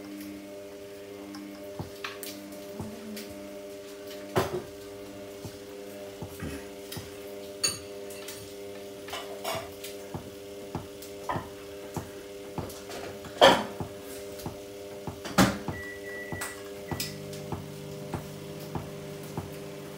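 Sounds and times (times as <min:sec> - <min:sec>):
washing machine motor hum: 0:00.0 - 0:19.9.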